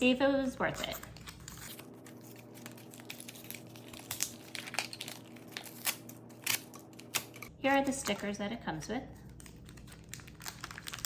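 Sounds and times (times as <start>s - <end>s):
packaging crinkling and rustling: 0.6s - 8.3s, 9.1s - 11.0s.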